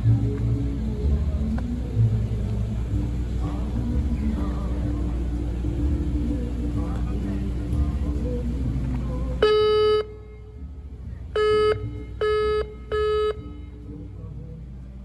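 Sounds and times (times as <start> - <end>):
ship horn blasts: 0.0 - 13.9
low engine rumble: 0.0 - 15.0.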